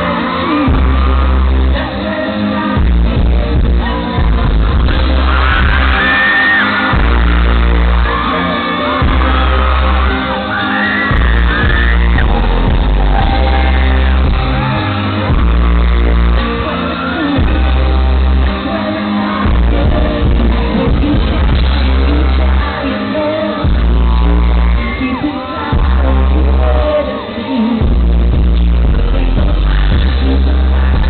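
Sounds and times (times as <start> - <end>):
heavy bass line: 0.0 - 31.0
live pop band: 0.0 - 31.0
man singing: 0.0 - 31.0.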